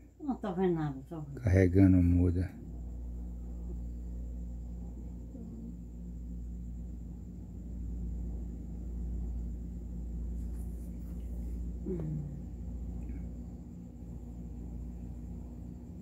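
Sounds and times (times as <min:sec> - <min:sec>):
faint high whine: 0:00.0 - 0:16.0
steady low hum: 0:00.0 - 0:16.0.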